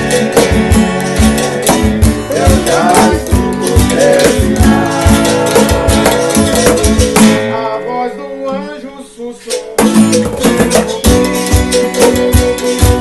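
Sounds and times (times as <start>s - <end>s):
cajon beats: 0.0s - 8.0s, 9.3s - 13.0s
acoustic guitar: 0.0s - 13.0s
berimbau notes: 0.0s - 13.0s.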